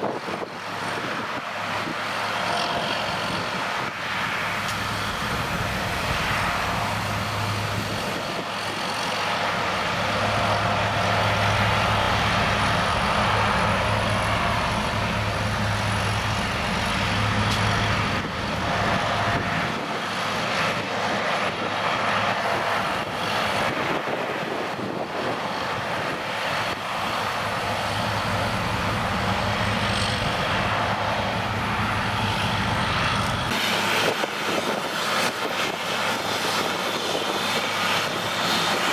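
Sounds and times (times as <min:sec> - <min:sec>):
engine drone: 0:00.0 - 0:38.9.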